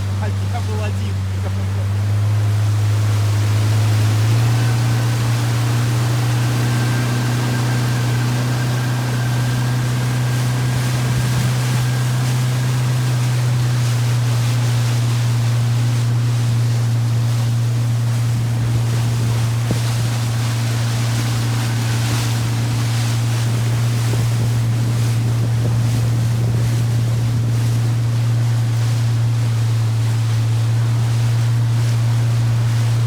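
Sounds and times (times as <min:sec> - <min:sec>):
motorboat engine humming: 0:00.0 - 0:33.0
water rushing past hull: 0:00.0 - 0:33.0
wind noise on microphone: 0:03.1 - 0:30.0.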